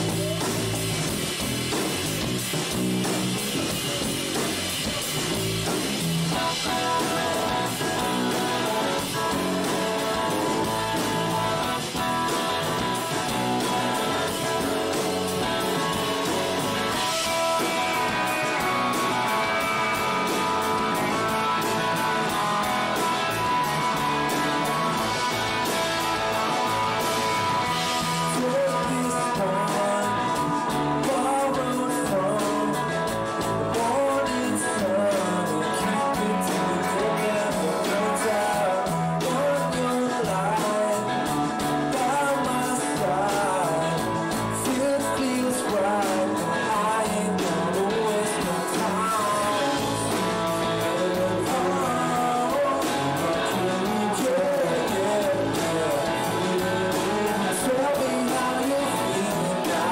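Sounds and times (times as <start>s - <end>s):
person singing lead vocal: 0.0s - 0.9s, 6.4s - 59.9s
bass guitar: 0.0s - 59.9s
distorted electric guitars: 0.0s - 59.9s
drum kit: 0.0s - 59.9s.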